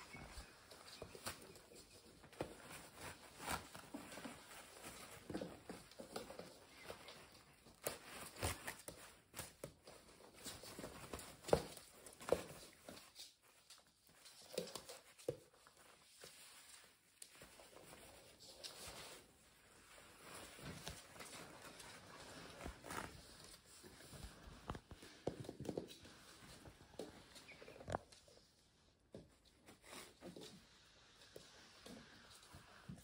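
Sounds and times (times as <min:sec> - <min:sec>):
puppies scuffling: 0:00.0 - 0:33.0.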